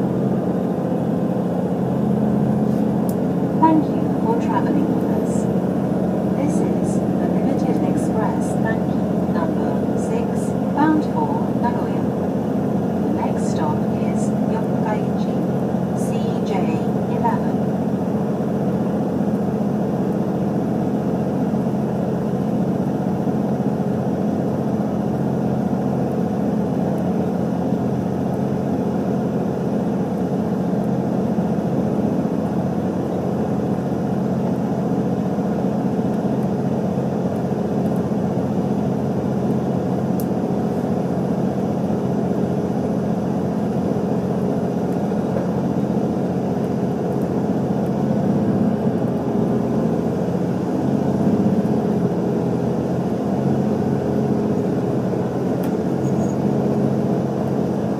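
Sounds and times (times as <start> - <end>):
train engine hum and rumble: 0.0 - 57.9.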